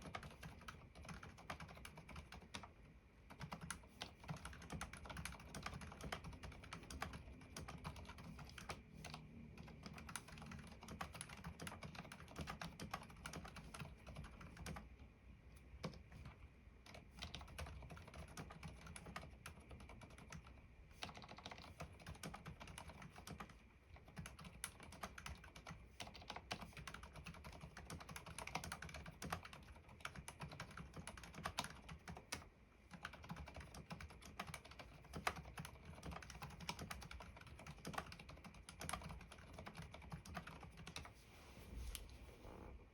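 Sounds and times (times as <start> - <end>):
muted mechanical keyboard typing: 0.0 - 15.0, 15.8 - 41.1.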